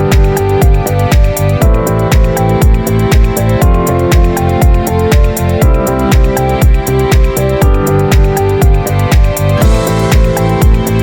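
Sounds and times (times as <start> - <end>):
deep kick drums: 0.0 - 11.0.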